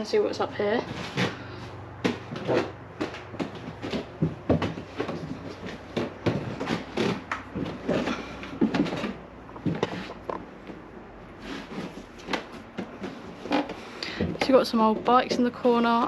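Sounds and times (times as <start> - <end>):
footsteps on wooden stairs: 0.8 - 16.0
wooden stairs creaking: 0.8 - 16.0.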